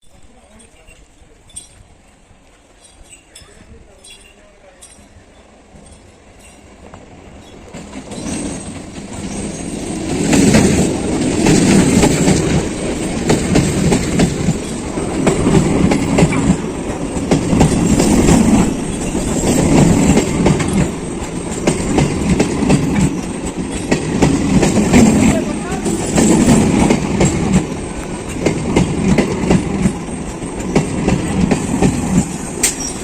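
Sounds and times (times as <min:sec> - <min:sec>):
train rumble: 0:00.1 - 0:33.0
wheels clattering over rail joints: 0:00.1 - 0:33.0.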